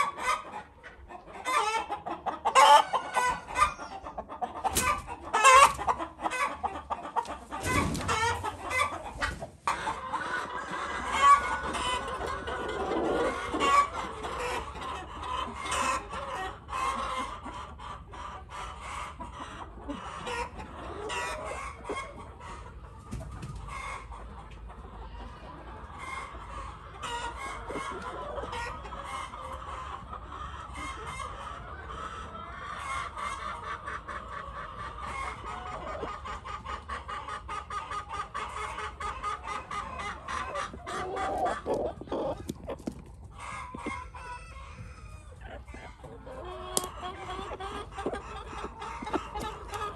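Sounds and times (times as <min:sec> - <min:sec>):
hens clucking: 0:00.0 - 0:49.9.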